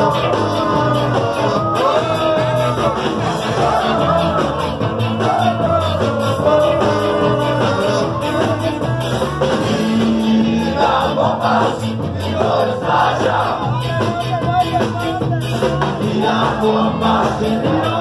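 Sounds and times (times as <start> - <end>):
ska band playing live: 0.0 - 18.0.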